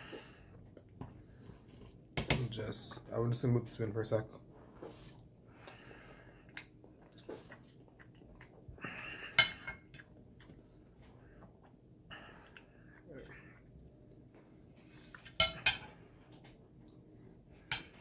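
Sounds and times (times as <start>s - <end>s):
soft chewing and mouth sounds: 0.1s - 3.2s, 4.4s - 18.0s.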